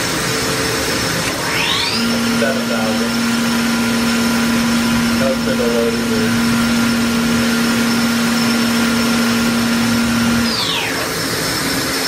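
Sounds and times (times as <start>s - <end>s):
machine spindle humming: 0.0s - 12.0s
spindle spinning down whine: 1.2s - 12.0s.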